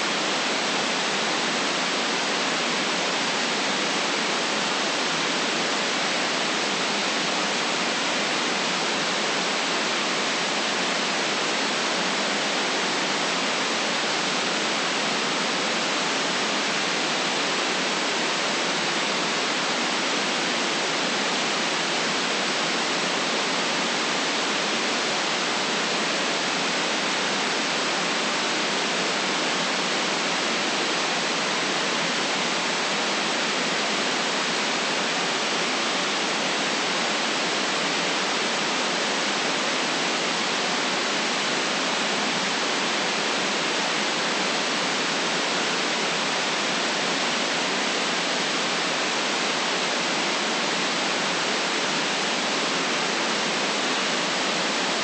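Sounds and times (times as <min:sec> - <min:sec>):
synthetic white noise hiss: 0:00.0 - 0:55.0.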